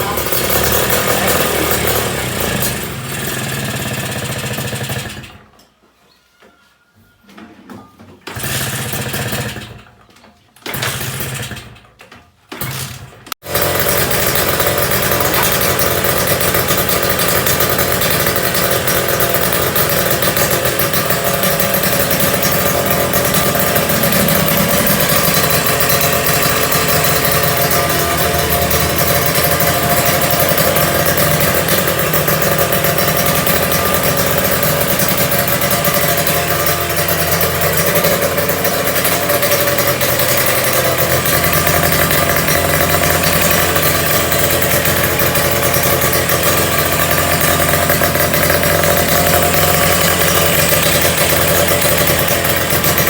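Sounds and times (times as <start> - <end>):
motorcycle engine running: 0.0 - 5.4, 8.3 - 9.8, 13.4 - 53.0.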